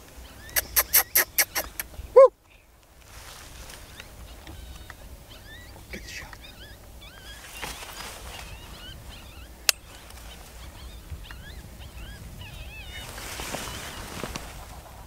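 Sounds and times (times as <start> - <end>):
high yelping whines: 0.2 - 2.3, 3.9 - 14.2.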